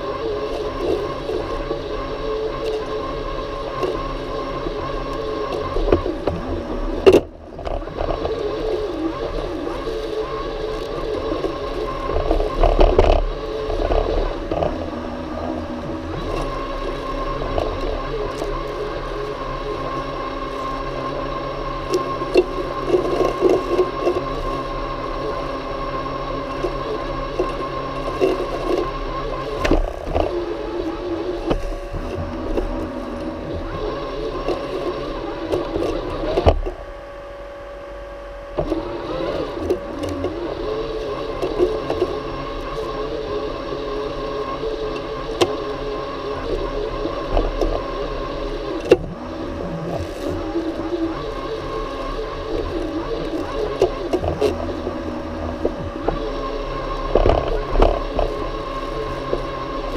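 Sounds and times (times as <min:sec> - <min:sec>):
robotic lawnmower motor whine: 0:00.0 - 0:59.9
small ticks and knocks: 0:03.7 - 0:25.4, 0:26.4 - 0:36.8, 0:38.6 - 0:43.1, 0:44.2 - 0:49.2, 0:49.9 - 0:59.9.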